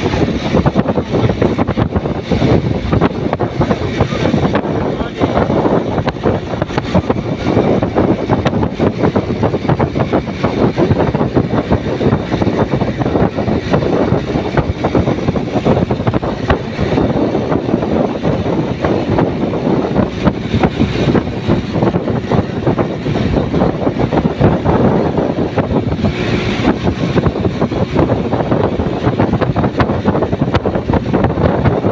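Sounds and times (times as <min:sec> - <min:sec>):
motorcycle engine at speed: 0:00.0 - 0:31.9
wind buffeting microphone: 0:00.0 - 0:31.9.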